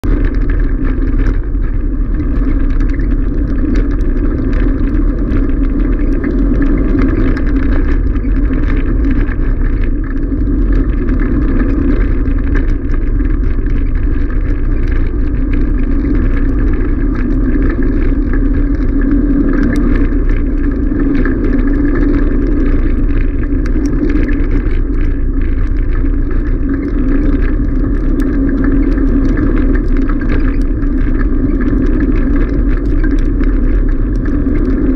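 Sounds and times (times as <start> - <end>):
grit ticking: 0.0 - 34.9
wheels rolling over gravel: 0.0 - 34.9.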